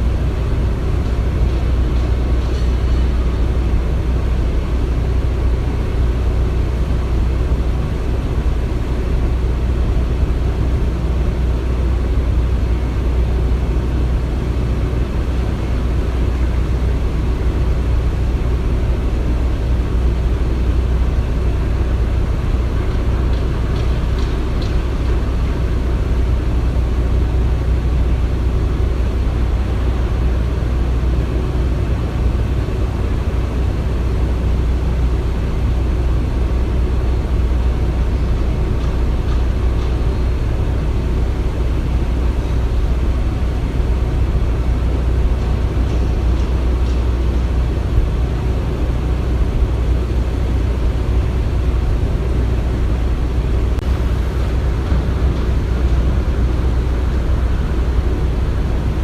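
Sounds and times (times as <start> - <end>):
heavy machinery rumbling: 0.0 - 59.0.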